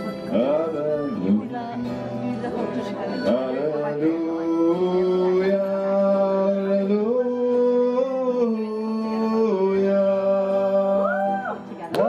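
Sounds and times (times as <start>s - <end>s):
person singing long notes: 0.0s - 2.4s, 3.1s - 12.0s.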